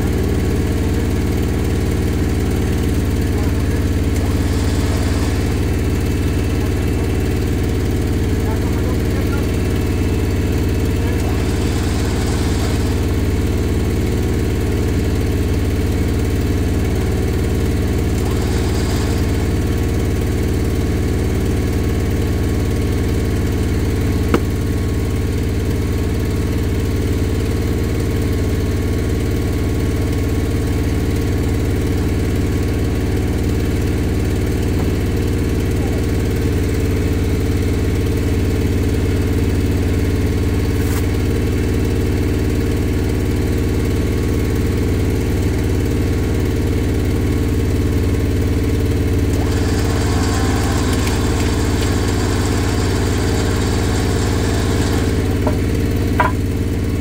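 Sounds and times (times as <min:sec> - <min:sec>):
steady engine drone: 0:00.0 - 0:57.0.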